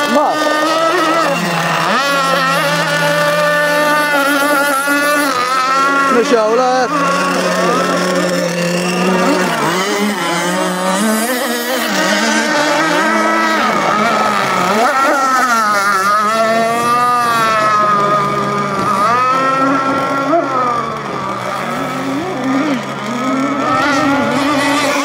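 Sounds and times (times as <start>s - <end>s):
model boat engine at high revs: 0.0s - 25.0s.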